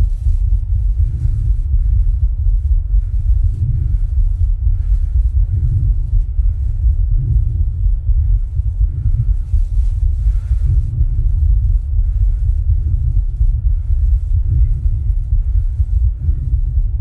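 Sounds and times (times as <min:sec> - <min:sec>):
heart sounds low rumble: 0:00.0 - 0:17.0
higher heartbeat swell: 0:00.0 - 0:17.0.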